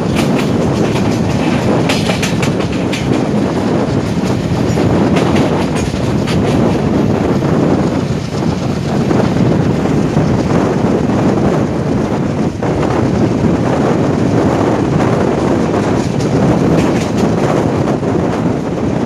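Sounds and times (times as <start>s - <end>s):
wheels clacking over rail joints: 0.0s - 10.6s, 13.0s - 18.5s
train rumbling on track: 0.0s - 19.0s.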